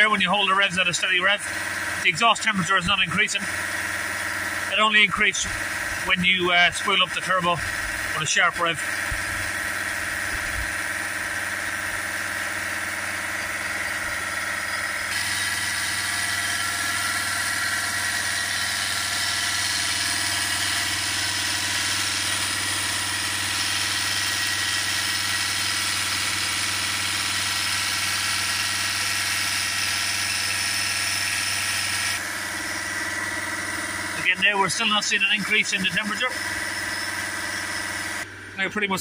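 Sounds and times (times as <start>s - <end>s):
diesel engine running steadily: 0.0s - 39.0s.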